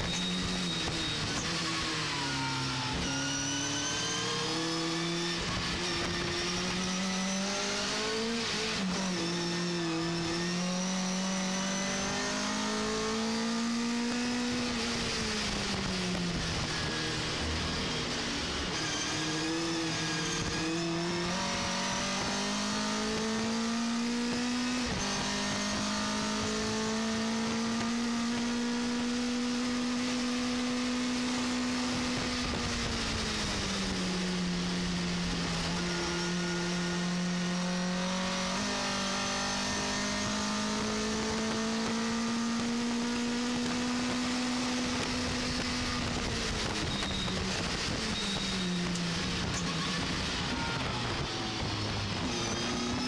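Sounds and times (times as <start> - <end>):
race engine revving: 0.1 - 53.0.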